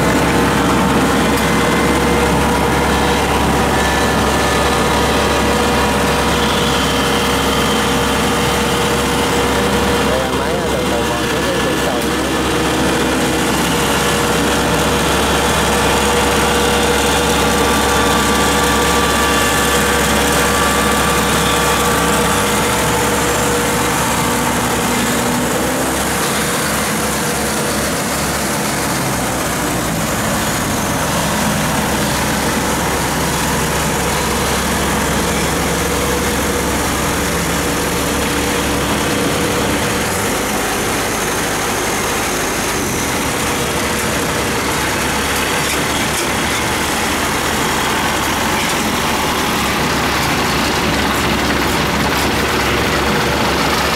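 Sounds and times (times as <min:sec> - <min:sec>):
diesel engine running: 0:00.0 - 0:53.9
tracks rolling over steel ramps: 0:00.0 - 0:53.9.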